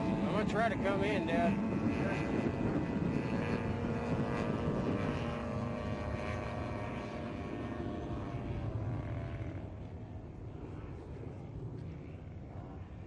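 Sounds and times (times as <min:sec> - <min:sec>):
model plane engine drone: 0:00.0 - 0:13.0.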